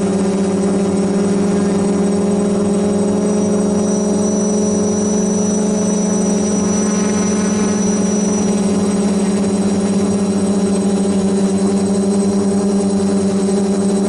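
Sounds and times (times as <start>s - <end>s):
quadcopter buzzing hum: 0.0s - 14.0s.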